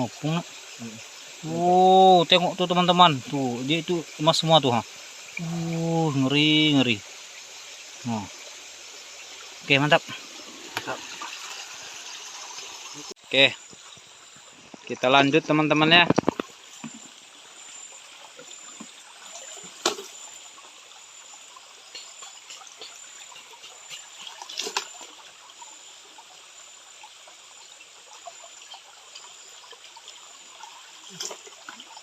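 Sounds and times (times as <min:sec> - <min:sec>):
stream water trickling: 0:00.0 - 0:32.0.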